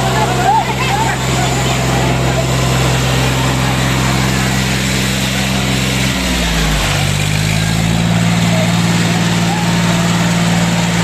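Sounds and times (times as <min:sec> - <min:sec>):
tractor engines running: 0:00.0 - 0:11.0.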